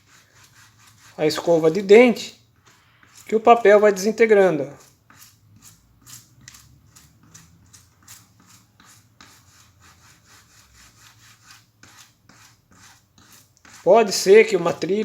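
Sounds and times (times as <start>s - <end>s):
toothbrush scrubbing: 0.0s - 15.0s.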